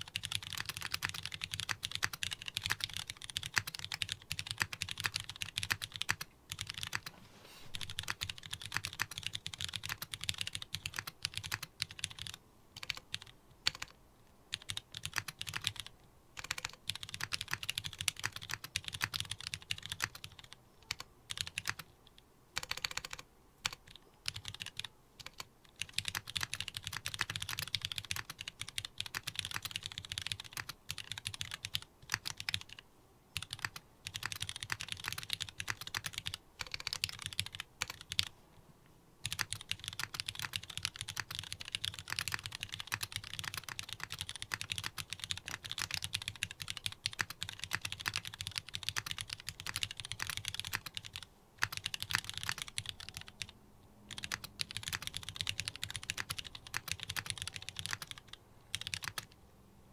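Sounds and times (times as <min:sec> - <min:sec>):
mechanical keyboard typing: 0:00.0 - 0:07.1, 0:07.7 - 0:32.8, 0:33.4 - 0:38.3, 0:39.2 - 0:59.4.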